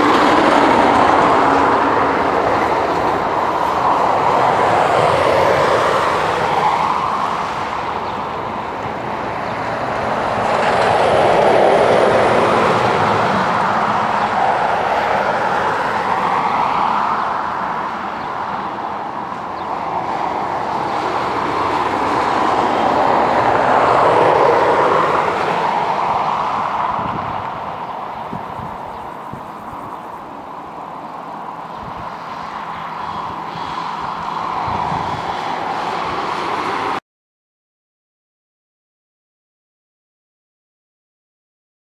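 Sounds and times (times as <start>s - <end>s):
distant jet engines roaring: 0.0s - 37.0s.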